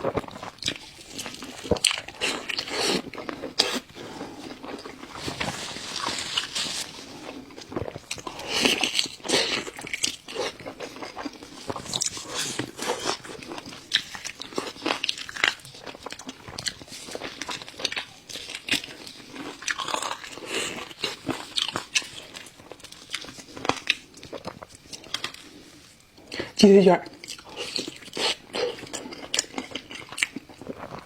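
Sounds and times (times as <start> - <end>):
chewing crispy food: 0.0 - 31.0.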